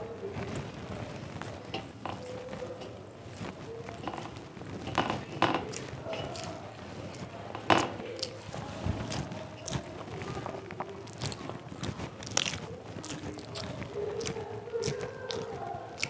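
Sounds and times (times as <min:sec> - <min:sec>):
soft squishing of food: 0:00.0 - 0:16.0.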